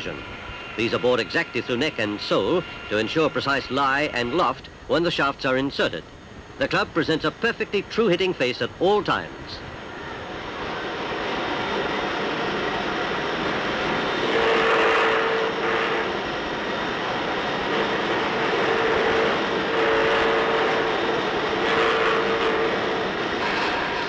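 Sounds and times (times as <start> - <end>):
high machine whine: 0.0 - 24.0.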